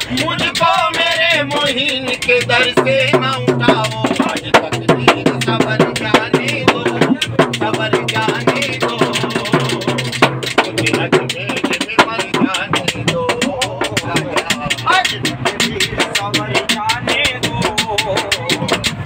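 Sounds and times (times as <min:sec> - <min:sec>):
barrel drum played by hand: 0:00.0 - 0:19.0
singing voices: 0:00.0 - 0:19.0
frame drum: 0:01.8 - 0:19.0.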